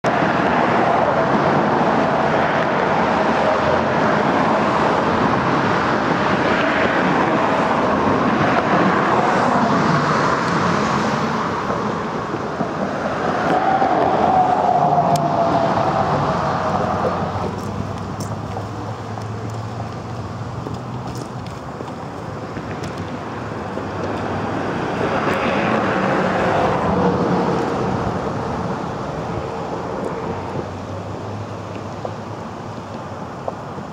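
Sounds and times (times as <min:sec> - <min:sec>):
road traffic noise: 0:00.0 - 0:33.9
car passing by: 0:00.1 - 0:33.9.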